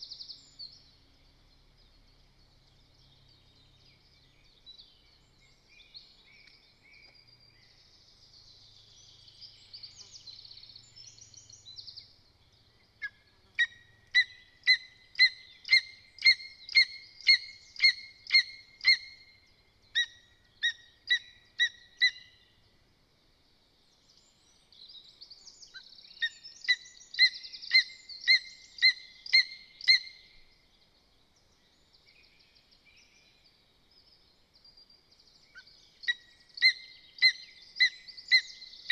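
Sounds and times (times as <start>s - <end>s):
songbird chatter: 0.0s - 22.9s, 23.6s - 38.9s.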